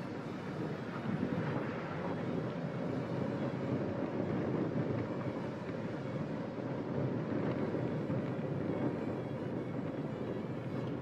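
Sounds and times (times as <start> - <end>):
vehicle rumbling on gravel road: 0.0 - 11.0.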